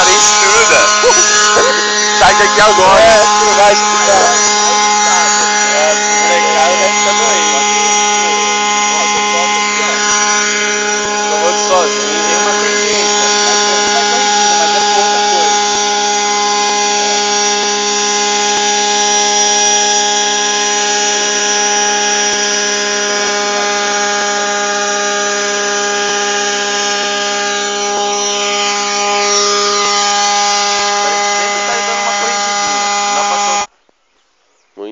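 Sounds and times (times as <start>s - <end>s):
model helicopter motor whining: 0.0s - 33.7s.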